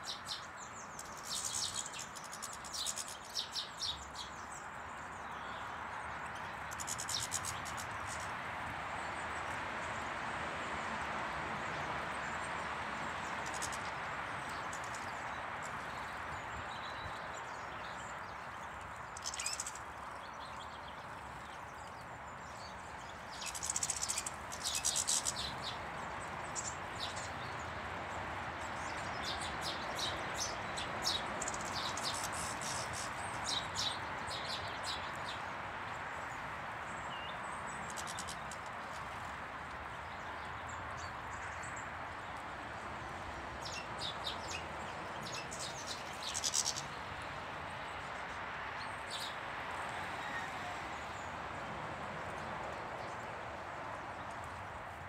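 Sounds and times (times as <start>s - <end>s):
small birds chirping and twittering: 0.0s - 10.2s, 11.7s - 51.4s.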